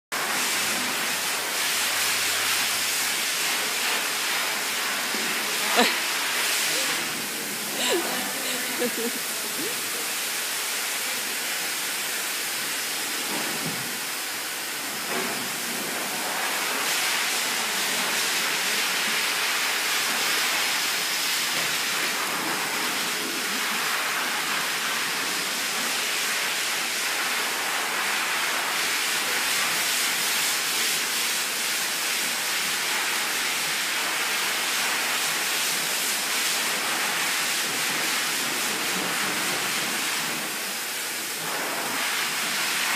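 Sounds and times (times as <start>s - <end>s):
pool water splashing: 0.2s - 42.9s.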